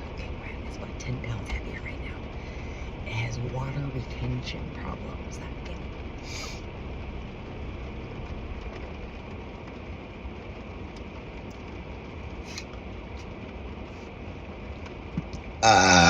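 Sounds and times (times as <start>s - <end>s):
low rumble inside a car: 0.0s - 16.0s.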